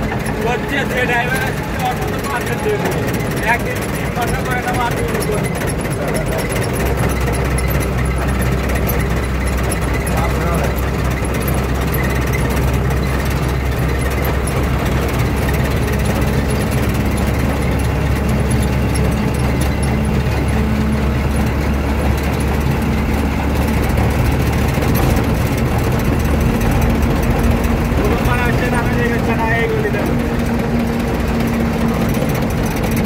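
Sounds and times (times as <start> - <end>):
truck engine drone: 0.0 - 33.0.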